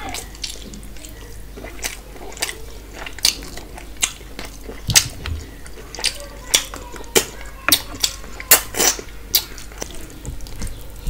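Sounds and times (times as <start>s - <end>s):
chewing and wet lip-smacking: 0.0s - 11.0s.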